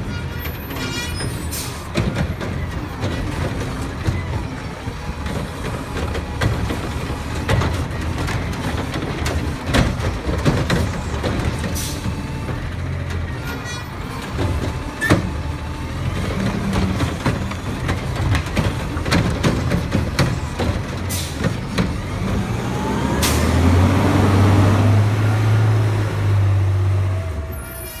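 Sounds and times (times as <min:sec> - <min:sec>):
metal clanks and knocks: 0:00.0 - 0:23.8
diesel engine running: 0:00.4 - 0:28.0.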